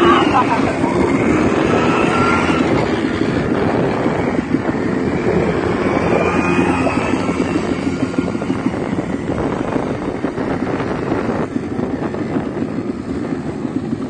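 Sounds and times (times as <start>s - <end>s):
quad bike engines running: 0.0s - 14.0s.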